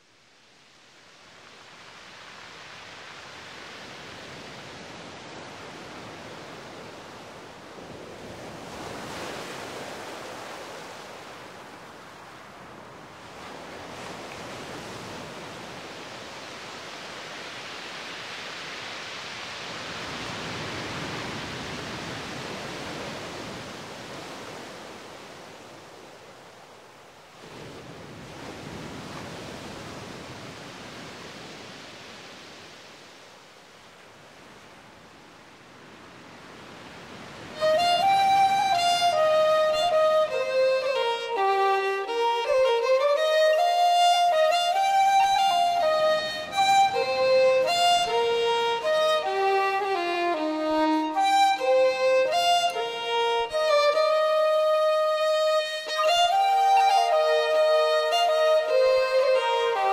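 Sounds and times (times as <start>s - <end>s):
ocean waves rushing: 1.0s - 34.9s, 35.5s - 59.9s.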